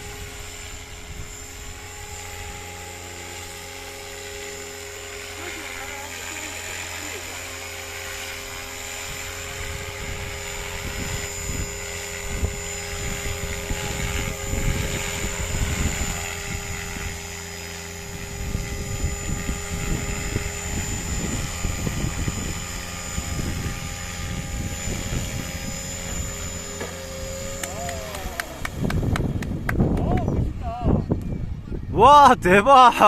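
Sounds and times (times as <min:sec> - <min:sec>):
rotor blades rushing: 0:00.0 - 0:31.5
model helicopter motor whine: 0:00.0 - 0:31.7.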